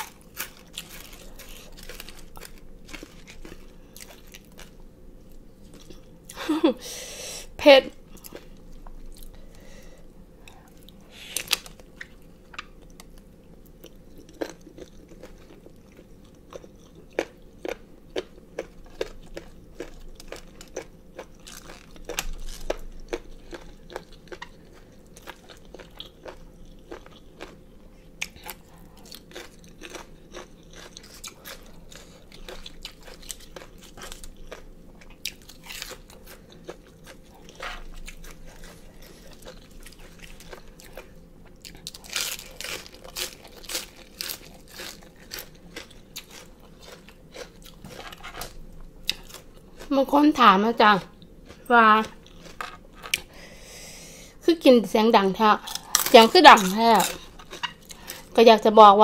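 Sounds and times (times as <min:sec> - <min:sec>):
crunchy chewing: 0:00.0 - 0:06.4, 0:10.4 - 0:49.9, 0:51.0 - 0:53.3, 0:55.6 - 0:58.4.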